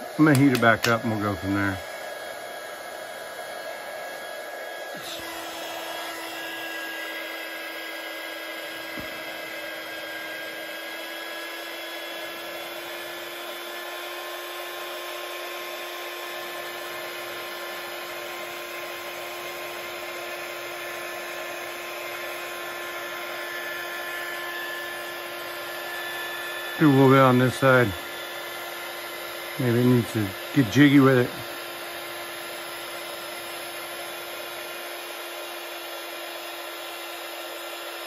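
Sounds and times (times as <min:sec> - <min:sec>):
heat gun blowing air: 0:00.0 - 0:38.0.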